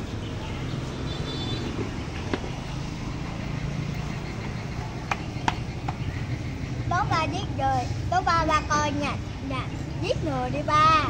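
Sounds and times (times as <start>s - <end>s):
motorbikes passing: 0.0s - 11.0s.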